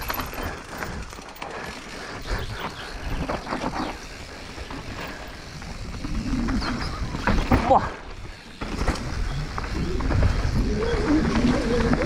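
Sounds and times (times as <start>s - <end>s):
bike knocking and rattling: 0.0s - 12.0s
bike tyres rolling: 0.0s - 12.0s.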